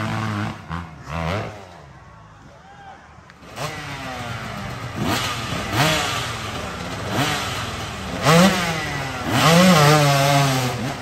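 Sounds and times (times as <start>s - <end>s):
dirt bike engine revving: 0.0s - 1.8s, 3.4s - 11.0s.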